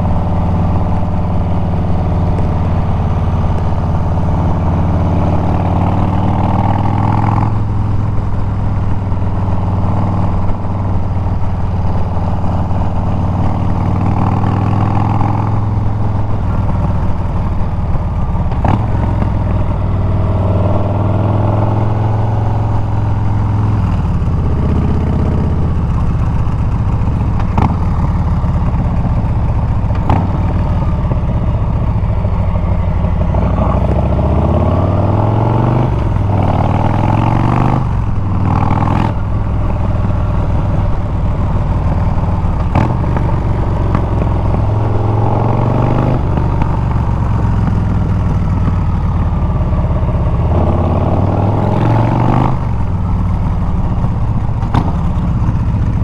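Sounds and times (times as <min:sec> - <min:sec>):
motorcycle exhaust cruising: 0:00.0 - 0:56.0.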